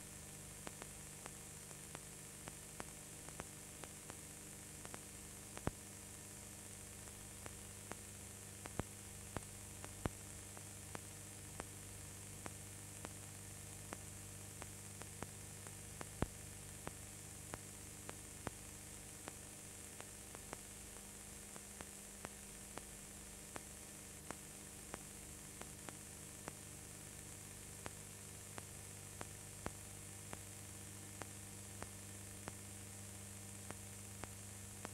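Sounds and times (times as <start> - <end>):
electrical mains hum: 0.0 - 34.9
faint steady hiss: 0.0 - 34.9.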